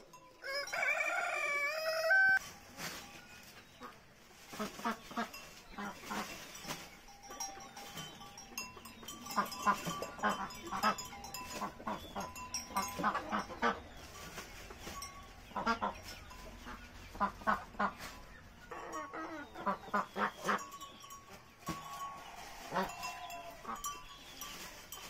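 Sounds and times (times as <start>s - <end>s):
farm animals honking: 0.0s - 2.5s, 3.8s - 25.0s.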